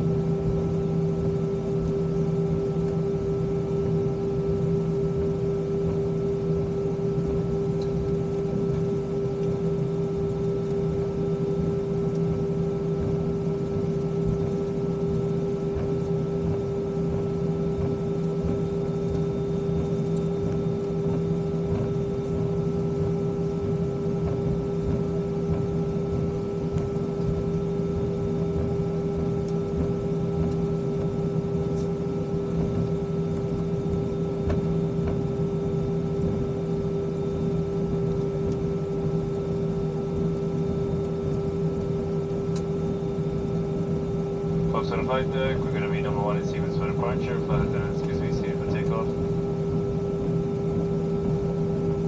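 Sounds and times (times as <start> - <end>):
aircraft cabin engine hum: 0.0 - 52.0.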